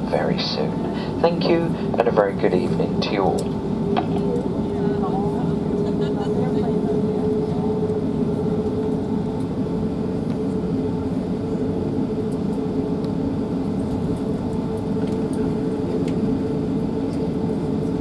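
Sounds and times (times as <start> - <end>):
airplane cabin hum: 0.0 - 18.0.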